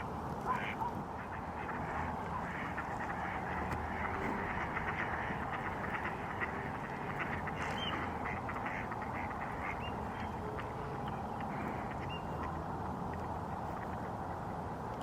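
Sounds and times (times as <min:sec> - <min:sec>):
ducks quacking: 0:00.0 - 0:14.6
steady rushing noise: 0:00.0 - 0:15.0.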